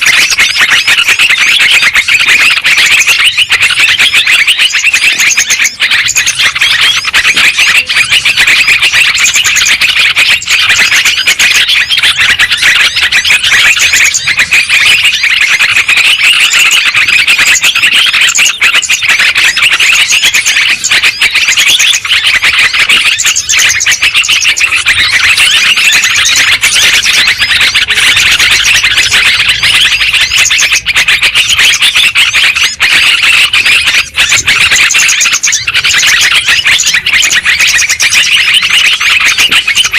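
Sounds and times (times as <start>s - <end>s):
bulbuls chirping in chorus: 0.0s - 39.9s.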